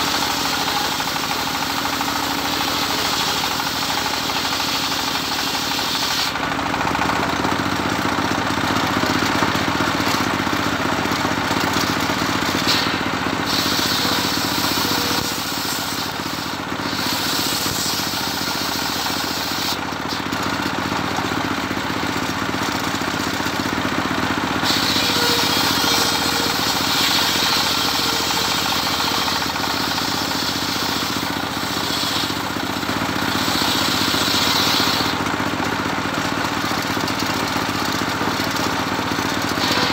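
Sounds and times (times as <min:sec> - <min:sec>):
circular saw cutting wood: 0:00.0 - 0:39.9
engine drone: 0:00.0 - 0:39.9.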